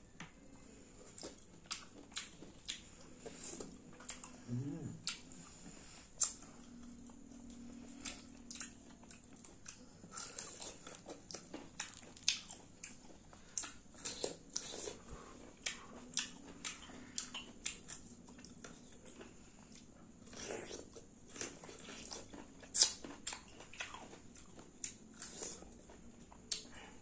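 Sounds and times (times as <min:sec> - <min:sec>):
person chewing with mouth smacks: 0:00.2 - 0:26.8.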